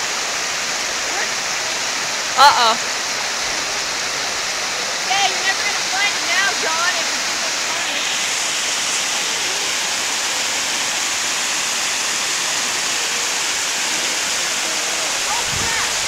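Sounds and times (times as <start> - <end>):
water rushing over waterfall: 0.0 - 16.0.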